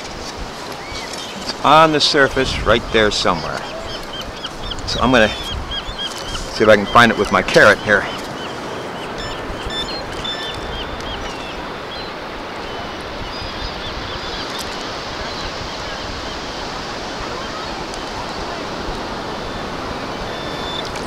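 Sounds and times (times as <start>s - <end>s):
surf washing: 0.0s - 21.0s.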